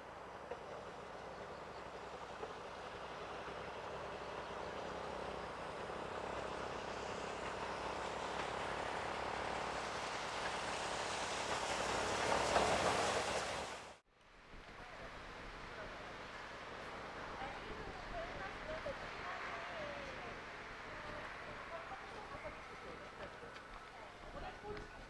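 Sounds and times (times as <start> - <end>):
steam locomotive working hard: 0.0 - 25.0.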